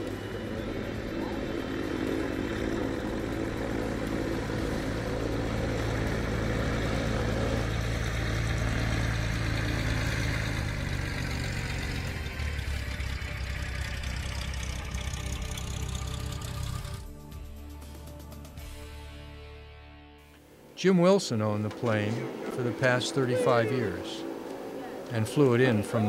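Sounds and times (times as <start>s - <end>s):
light aircraft engine and propeller: 0.0s - 18.7s, 21.4s - 26.0s.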